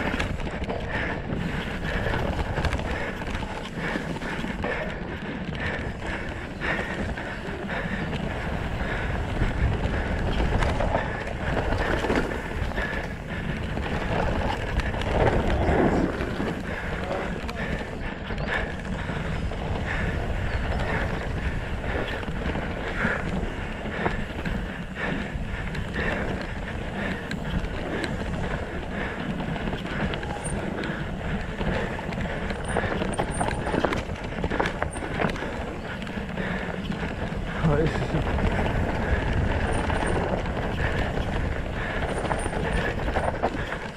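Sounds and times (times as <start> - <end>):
bike chain rattling: 0.0 - 43.9
bike tyres rumbling over dirt: 0.0 - 43.9
wind buffeting microphone: 0.0 - 43.9.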